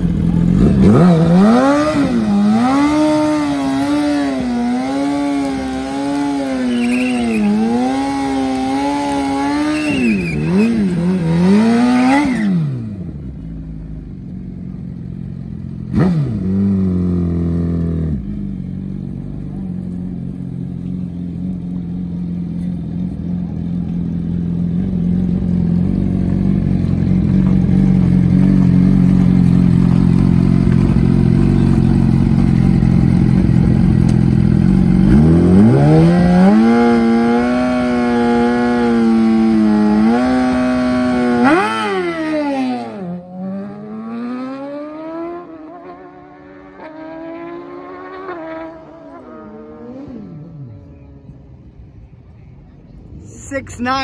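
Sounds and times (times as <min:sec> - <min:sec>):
motorcycle engine revving: 0:00.0 - 0:51.4.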